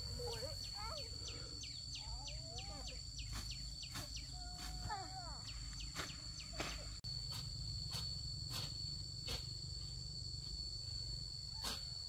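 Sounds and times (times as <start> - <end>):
insects singing: 0.0 - 12.0.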